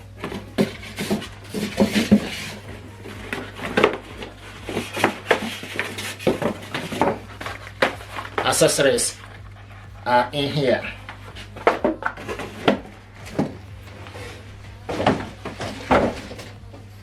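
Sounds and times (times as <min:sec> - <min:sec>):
box and packing handling clatter: 0:00.0 - 0:17.0.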